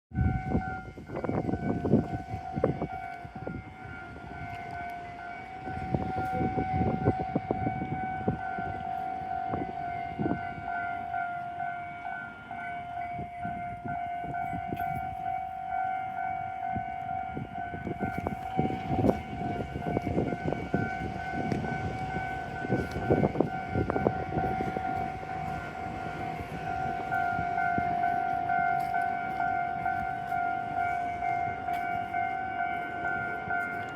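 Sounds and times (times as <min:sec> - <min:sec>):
level crossing warning bell: 0:00.1 - 0:33.9
rumble of passing trains: 0:00.1 - 0:33.9.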